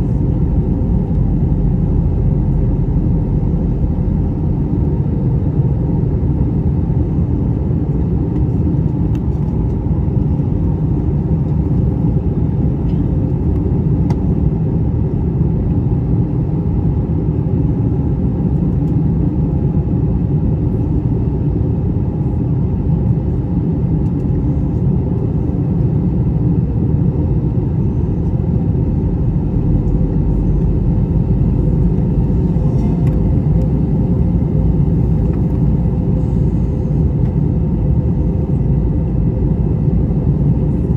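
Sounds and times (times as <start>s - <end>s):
aircraft cabin engine rumble: 0.0s - 40.9s
faint steady hum: 0.0s - 40.9s.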